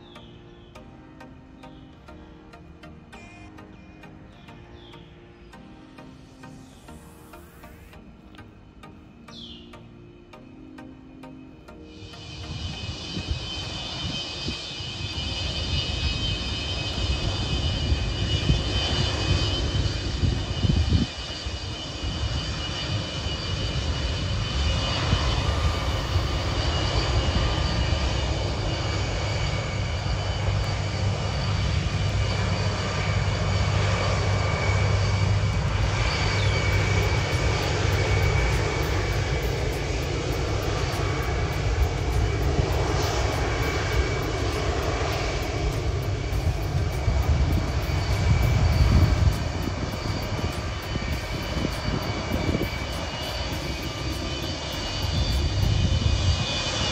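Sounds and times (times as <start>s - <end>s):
jet engines whining on runway: 0.0s - 56.9s.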